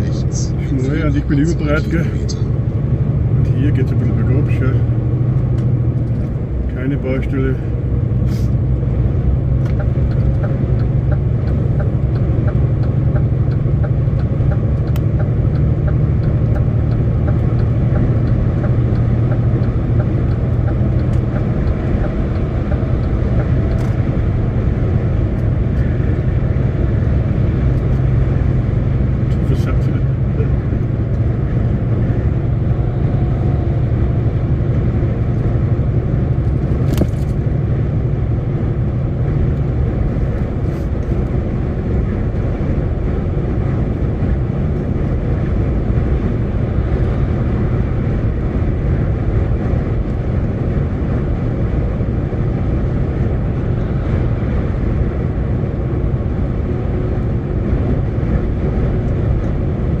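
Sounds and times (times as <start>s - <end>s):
diesel engine drone: 0.0s - 60.0s
road noise: 0.0s - 60.0s.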